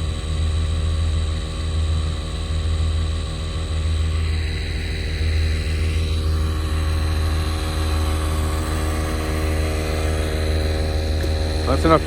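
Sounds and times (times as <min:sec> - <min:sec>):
motor running steadily: 0:00.0 - 0:12.0.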